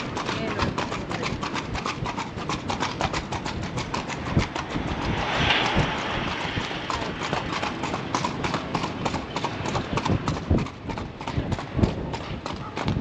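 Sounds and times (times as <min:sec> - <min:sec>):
horse hooves clip-clopping: 0:00.0 - 0:13.0.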